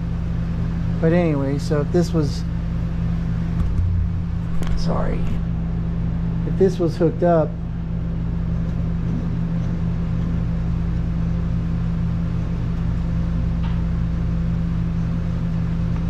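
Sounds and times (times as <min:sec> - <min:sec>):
machine hum with rumble: 0:00.0 - 0:16.0.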